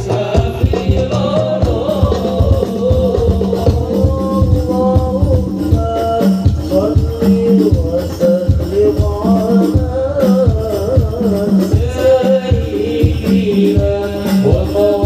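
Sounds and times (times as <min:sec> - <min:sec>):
low frame drum strokes: 0:00.0 - 0:15.0.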